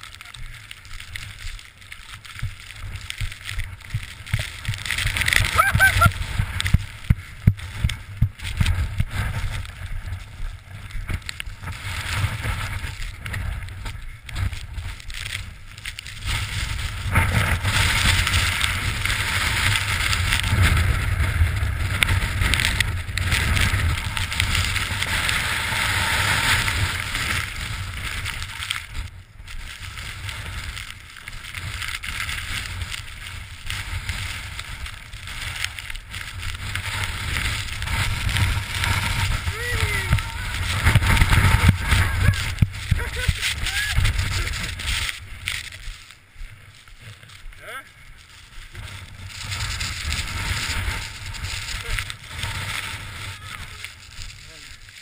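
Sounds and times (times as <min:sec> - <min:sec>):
wind buffeting microphone: 0:02.2 - 0:55.0.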